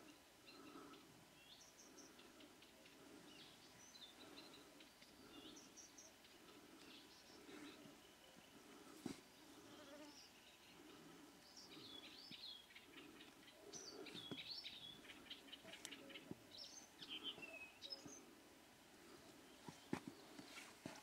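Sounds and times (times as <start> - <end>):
faint songbird singing: 0.0 - 21.0.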